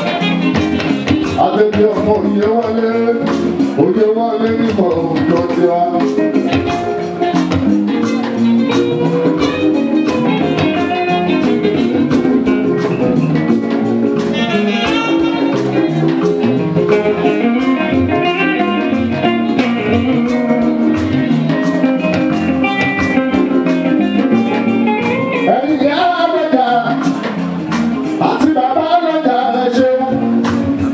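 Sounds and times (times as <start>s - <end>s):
percussion steady beat: 0.0s - 30.9s
plucked guitar line: 0.0s - 30.9s.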